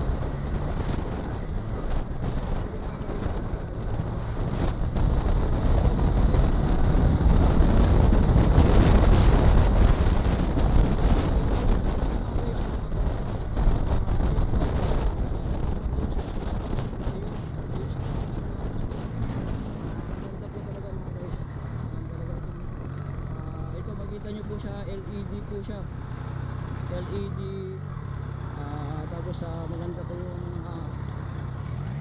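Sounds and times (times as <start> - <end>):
wind rushing over microphone: 0.0 - 26.2.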